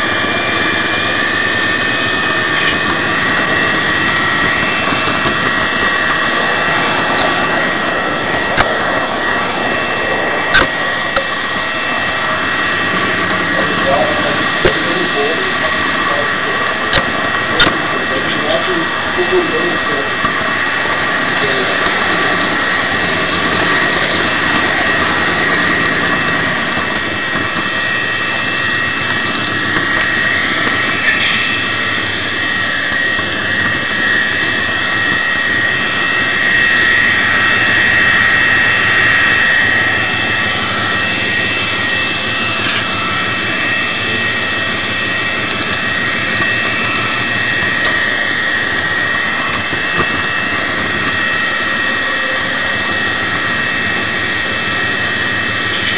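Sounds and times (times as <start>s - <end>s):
diesel engine sound from small speaker: 0.0s - 55.9s
high whine: 0.0s - 55.9s.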